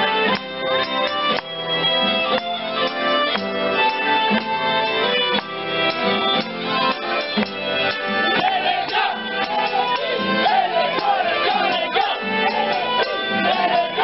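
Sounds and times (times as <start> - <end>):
folk dance music: 0.0 - 14.0
wavering melody line: 0.8 - 14.0.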